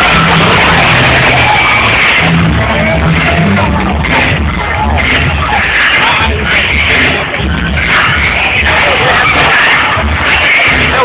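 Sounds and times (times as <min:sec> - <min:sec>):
loud dance music: 0:00.0 - 0:11.0.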